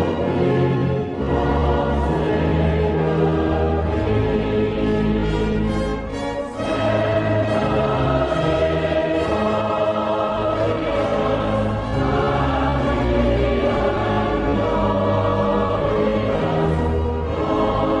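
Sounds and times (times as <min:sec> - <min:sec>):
choir singing held chords: 0:00.0 - 0:18.0
orchestra playing: 0:00.0 - 0:18.0.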